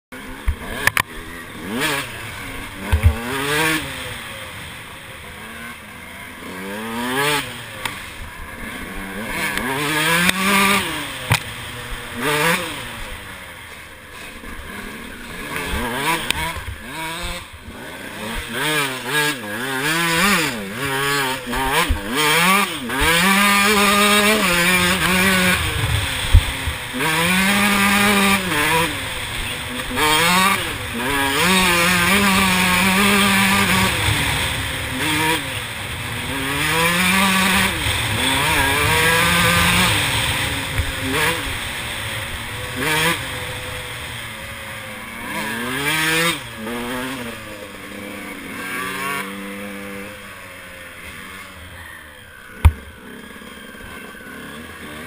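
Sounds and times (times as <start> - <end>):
motorcycle engine revving: 0.1 - 55.0.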